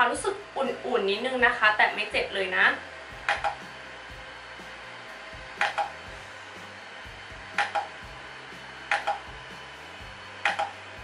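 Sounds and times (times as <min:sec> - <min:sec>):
device humming: 0:00.0 - 0:11.0.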